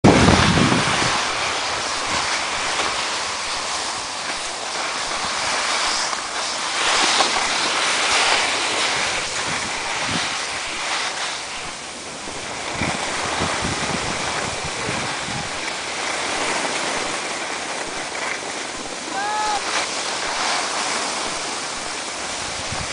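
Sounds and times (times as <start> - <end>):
wind buffeting microphone: 0.0 - 22.9
skis scraping over snow: 0.1 - 22.9.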